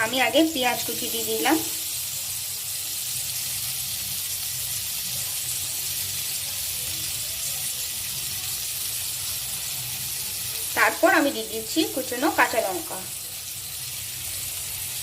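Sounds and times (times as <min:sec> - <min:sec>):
onion sizzling in butter: 0:00.0 - 0:15.0.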